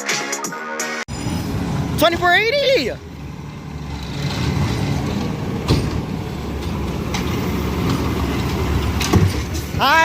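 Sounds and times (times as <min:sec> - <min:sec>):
truck engine running: 0:01.1 - 0:10.0.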